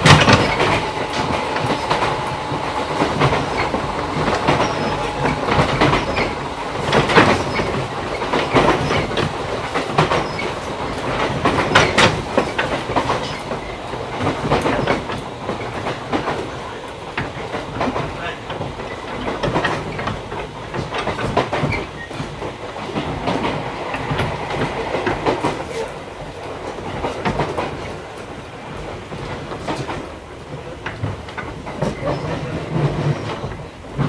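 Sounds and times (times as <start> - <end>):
electric train rumble: 0.0 - 34.0
wheels clicking over rail joints: 0.0 - 34.0.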